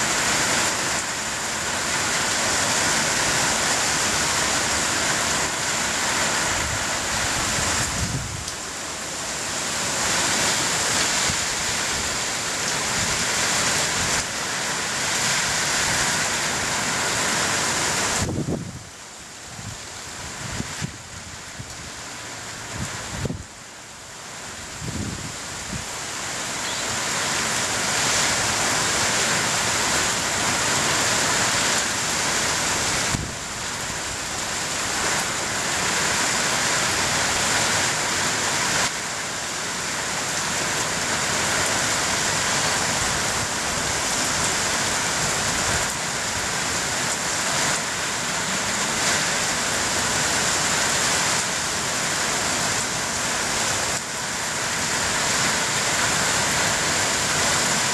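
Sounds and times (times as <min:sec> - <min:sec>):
rain pouring: 0:00.0 - 0:57.9.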